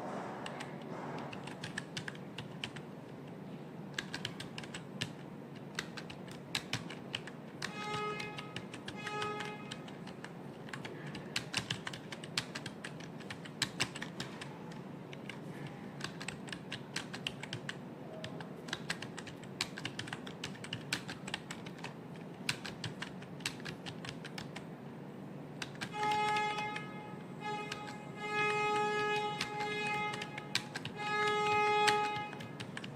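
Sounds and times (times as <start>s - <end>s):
computer keyboard typing: 0.4s - 24.7s, 25.6s - 32.9s.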